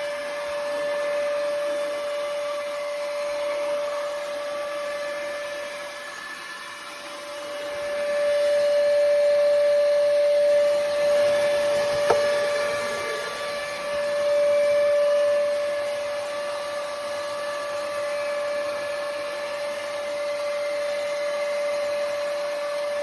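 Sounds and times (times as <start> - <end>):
robot vacuum running: 0.0 - 22.8.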